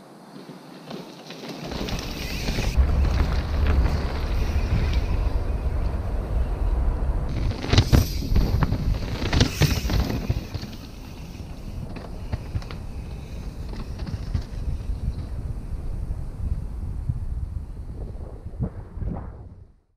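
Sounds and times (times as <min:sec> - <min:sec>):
bike tyres crunching over dirt: 0:00.2 - 0:17.8
wind rumbling on microphone: 0:01.6 - 0:19.9.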